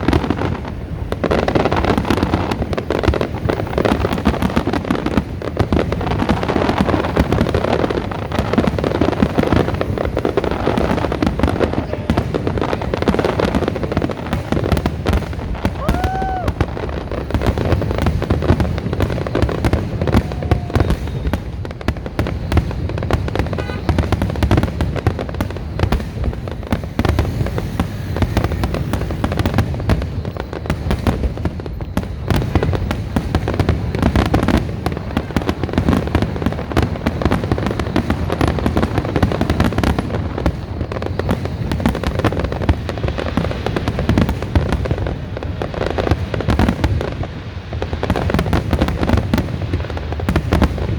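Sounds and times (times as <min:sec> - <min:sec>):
firework whistle: 0:00.0 - 0:45.2
fireworks booms and crackles: 0:00.0 - 0:50.9.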